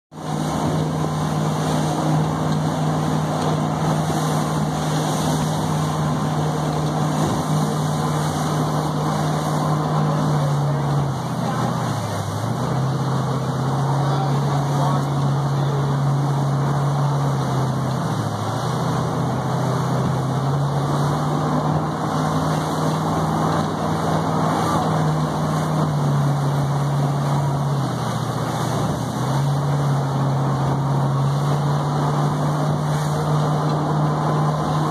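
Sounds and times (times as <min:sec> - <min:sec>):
boat motor droning: 0:00.1 - 0:34.9
churning wake rushing: 0:00.1 - 0:34.9.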